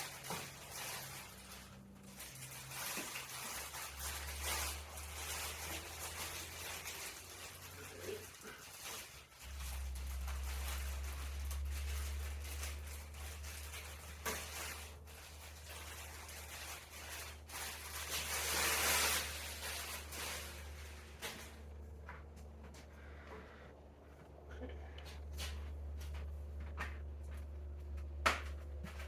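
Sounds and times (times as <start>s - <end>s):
rustling of parts and packaging: 0.0s - 29.0s
steady low hum: 3.6s - 29.0s.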